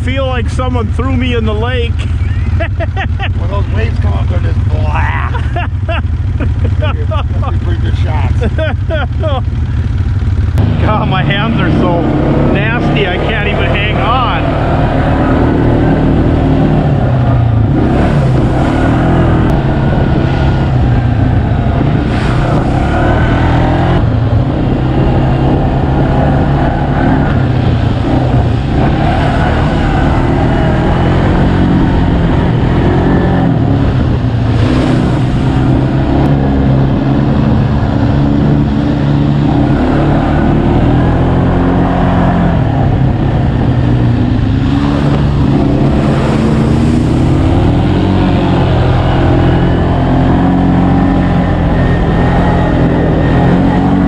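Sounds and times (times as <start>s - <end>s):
atv engine running: 0.0s - 54.0s
rough rushing ride noise: 0.0s - 54.0s.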